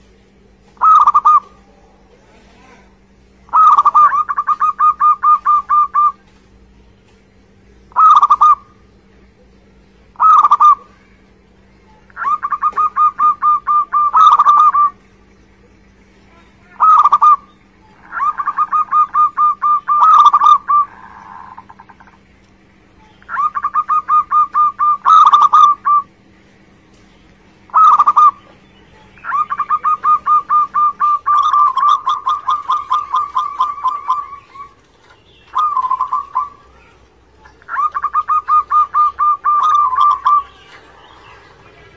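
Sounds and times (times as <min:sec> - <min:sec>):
dove cooing: 0:00.6 - 0:06.7, 0:07.8 - 0:15.0, 0:16.5 - 0:22.3, 0:22.9 - 0:26.1, 0:27.6 - 0:41.9.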